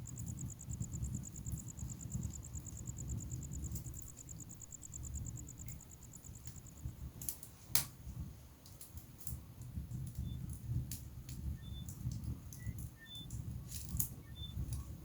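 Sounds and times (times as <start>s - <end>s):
fire flame rumble: 0.0s - 15.0s
wood fire crackles and pops: 0.0s - 15.0s.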